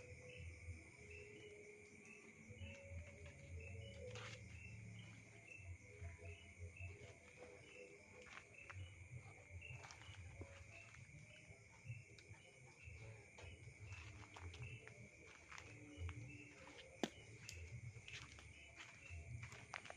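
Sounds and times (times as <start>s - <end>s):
insects trilling: 0.0s - 19.9s.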